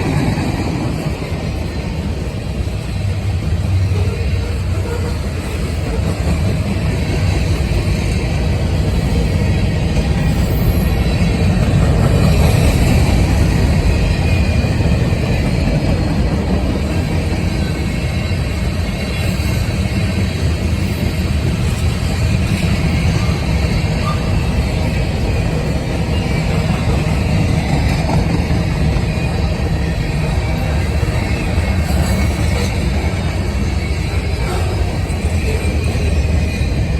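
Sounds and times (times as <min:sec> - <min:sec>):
freight train rumbling past: 0:00.0 - 0:36.9.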